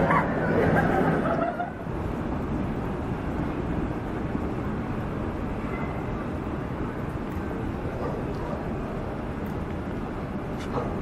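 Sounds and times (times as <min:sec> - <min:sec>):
passers-by's voices: 0:00.0 - 0:11.0
steady low rumble: 0:00.0 - 0:11.0.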